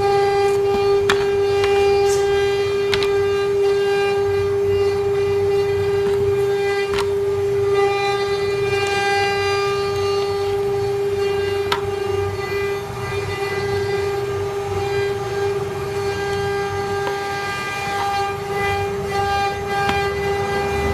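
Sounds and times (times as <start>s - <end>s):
router spindle high-pitched whine: 0.0s - 20.9s.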